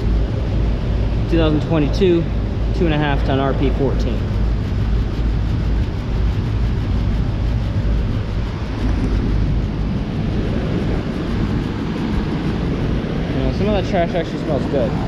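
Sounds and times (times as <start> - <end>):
heat pump running: 0.0 - 15.0.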